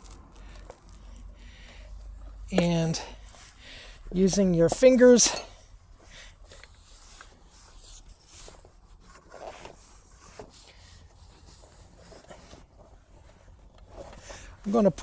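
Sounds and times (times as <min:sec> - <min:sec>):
rubber tube rubbing and rustling: 0:00.0 - 0:05.2, 0:05.8 - 0:15.0.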